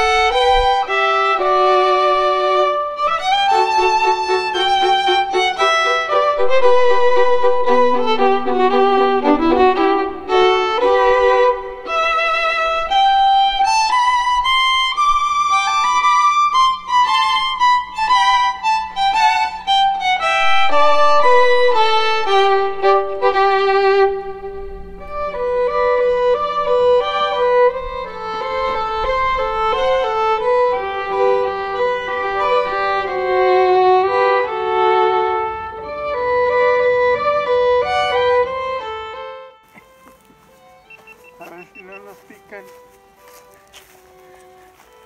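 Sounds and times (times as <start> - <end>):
faint low drone: 0.0 - 45.0
slow violin melody: 0.0 - 45.0.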